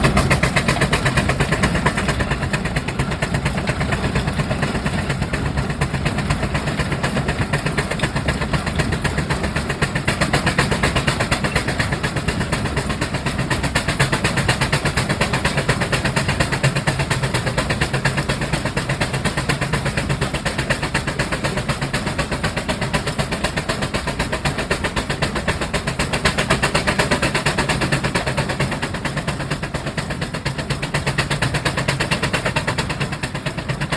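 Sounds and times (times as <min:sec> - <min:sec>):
steam engine exhaust beating: 0:00.0 - 0:33.9.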